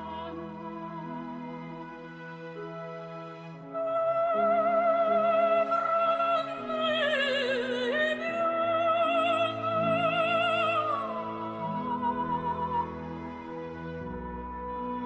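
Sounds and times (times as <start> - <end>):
operatic singing with vibrato: 0.0 - 2.2, 3.6 - 15.0.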